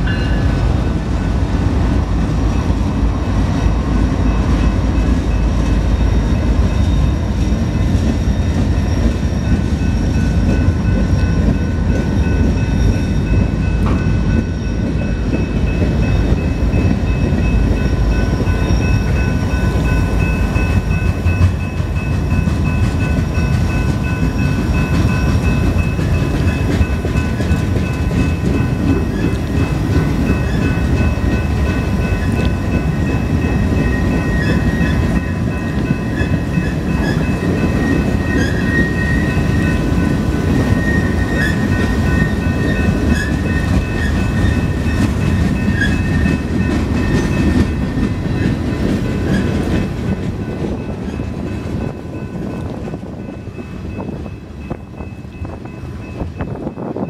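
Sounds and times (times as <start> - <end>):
diesel locomotives: 0.0 - 57.0.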